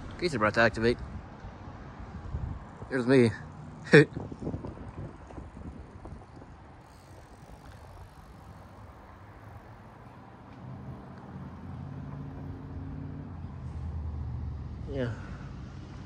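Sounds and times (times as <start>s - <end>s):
faint outdoor background noise: 0.0s - 16.0s.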